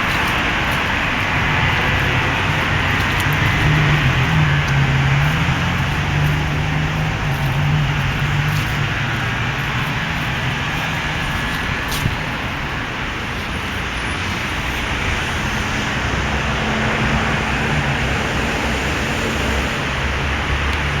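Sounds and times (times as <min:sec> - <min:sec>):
engine-like rumble: 0:00.0 - 0:21.0.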